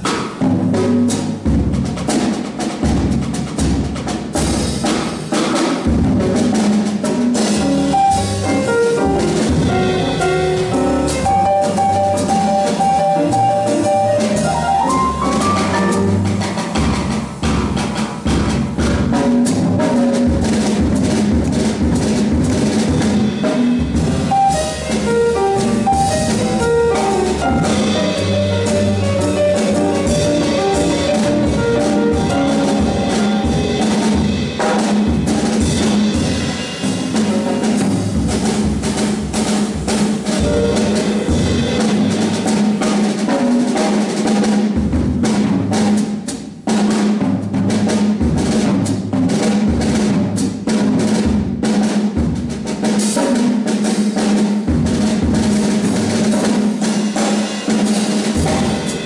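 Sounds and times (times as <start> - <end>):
piano trio playing: 0.0 - 59.0.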